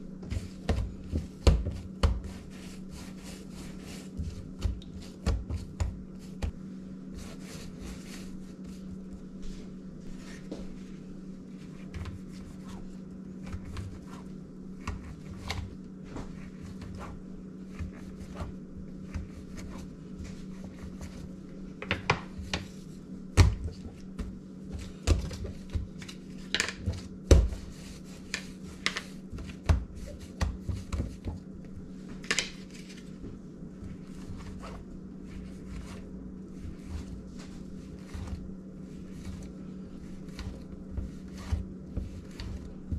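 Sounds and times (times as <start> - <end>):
hands rolling dough on a mat: 0.0 - 42.9
steady low hum: 0.0 - 42.9.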